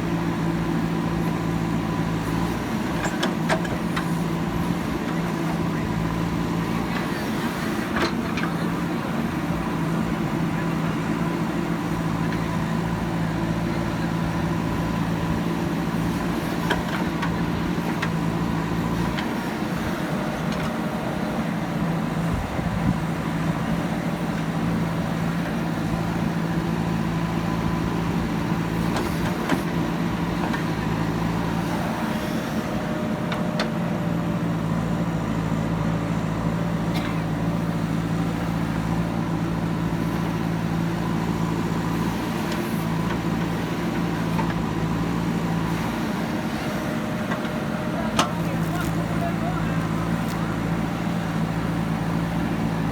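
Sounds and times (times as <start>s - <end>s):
large diesel engine running: 0.0s - 52.9s.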